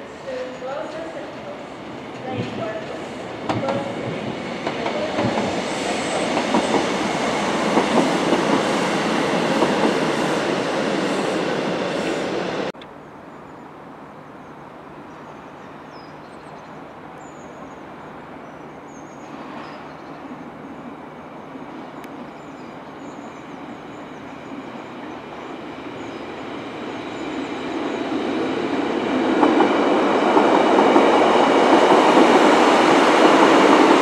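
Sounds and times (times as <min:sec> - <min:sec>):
train running on rails: 0:00.0 - 0:12.8, 0:13.4 - 0:34.0.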